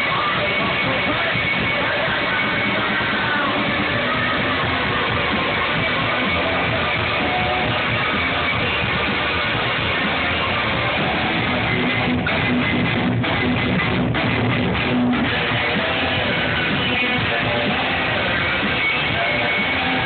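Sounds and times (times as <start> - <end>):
electric guitar: 0.0 - 20.0
live punk rock band: 0.0 - 20.0.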